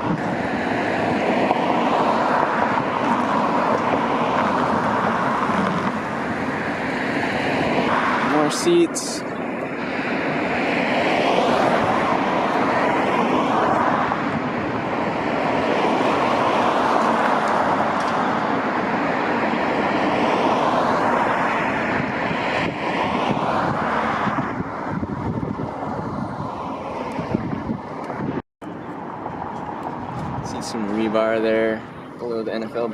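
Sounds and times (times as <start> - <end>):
road traffic passing: 0.0 - 32.9.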